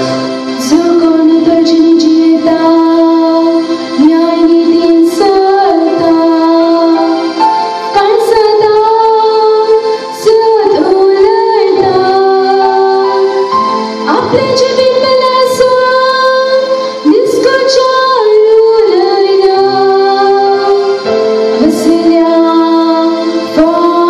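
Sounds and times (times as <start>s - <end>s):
girl singing into microphone: 0.6s - 24.0s.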